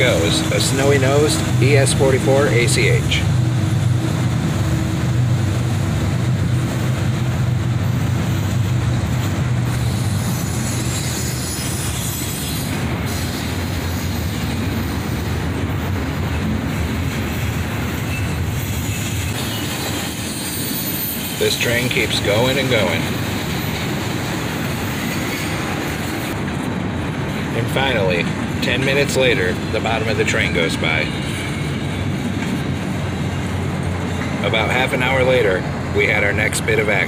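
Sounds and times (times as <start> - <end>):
diesel locomotive drone: 0.0 - 37.0
train wheels rumbling and rattling: 0.0 - 37.0.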